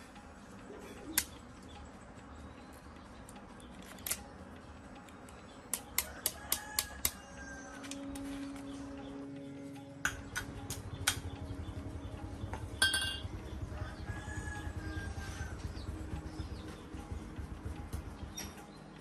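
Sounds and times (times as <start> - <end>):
sharp metallic clicks: 0.0 - 19.0
steady low hum: 0.0 - 19.0.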